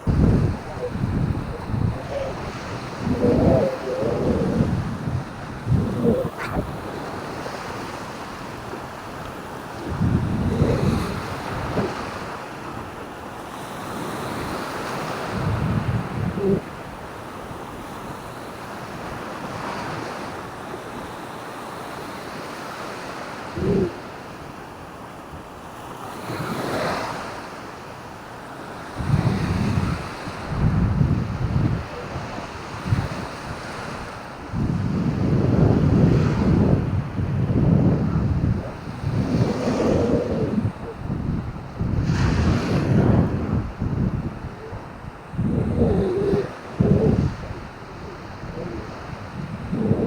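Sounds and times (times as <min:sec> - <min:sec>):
wind buffeting microphone: 0:00.0 - 0:19.9, 0:23.5 - 0:24.2, 0:28.9 - 0:50.0
surf washing on beach: 0:00.0 - 0:24.7, 0:25.9 - 0:50.0.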